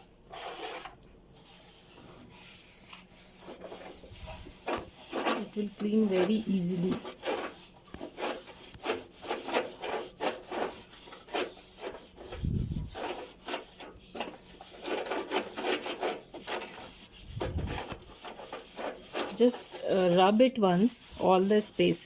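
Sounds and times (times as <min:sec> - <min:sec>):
towel rubbing inside microwave: 0:01.5 - 0:22.0.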